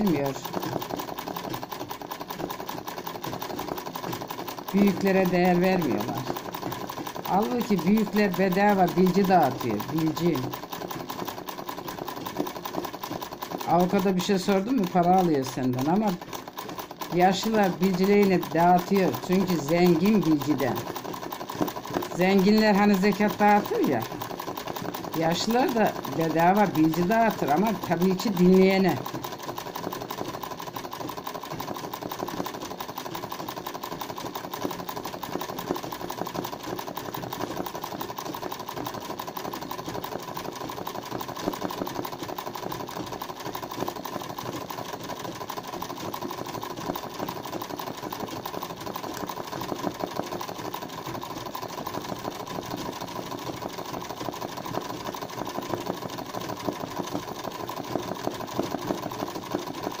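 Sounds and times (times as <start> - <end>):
sewing machine stitching: 0.0 - 60.0.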